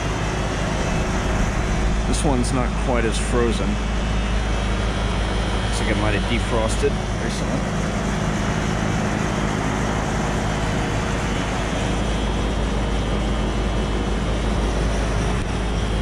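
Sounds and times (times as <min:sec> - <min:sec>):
heat pump fan and compressor hum: 0:00.0 - 0:16.0.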